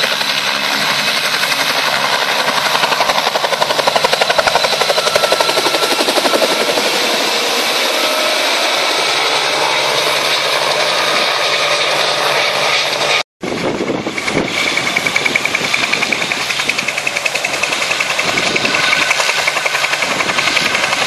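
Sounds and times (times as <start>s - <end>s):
helicopter flying overhead: 0.0s - 21.0s
helicopter rotor beating with whine: 0.0s - 21.0s.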